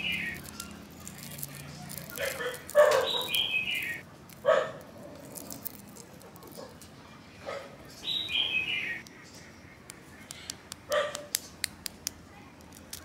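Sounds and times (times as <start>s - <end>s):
egg shell crackling: 0.0s - 6.9s, 9.0s - 13.0s.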